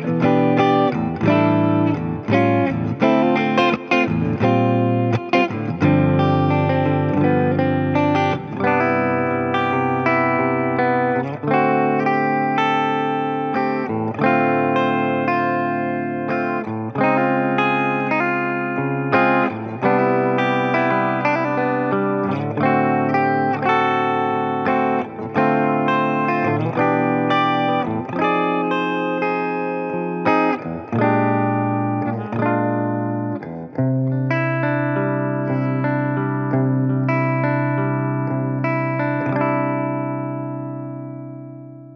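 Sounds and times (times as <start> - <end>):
electric guitar playing chords: 0.0 - 41.9.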